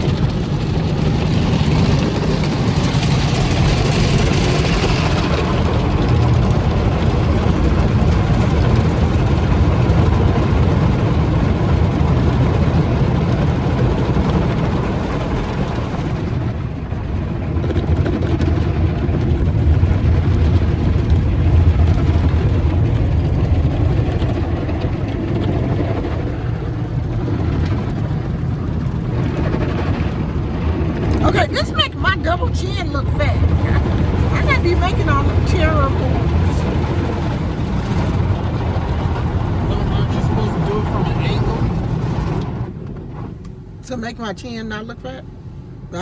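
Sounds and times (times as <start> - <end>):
car wash machinery rumble: 0.0 - 46.0.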